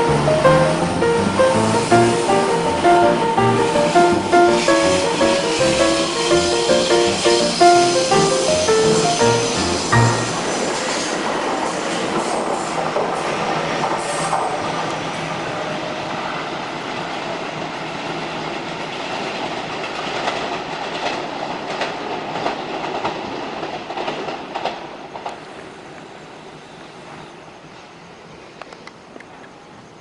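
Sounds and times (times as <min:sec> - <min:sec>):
train rumbling past: 0:00.0 - 0:28.3.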